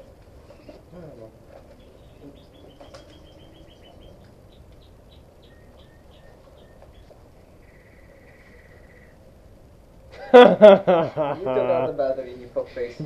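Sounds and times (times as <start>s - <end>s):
songbird chirps and trill: 0.0s - 11.7s
low background noise: 0.0s - 13.0s.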